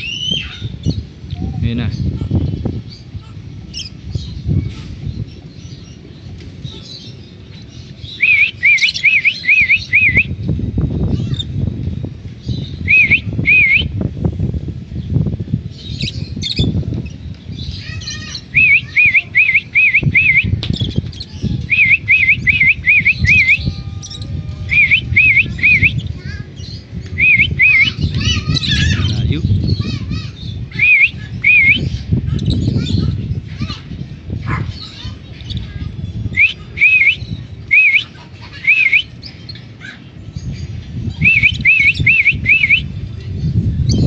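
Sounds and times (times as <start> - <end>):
lovebirds chirping: 0.0 - 11.6, 14.9 - 44.0.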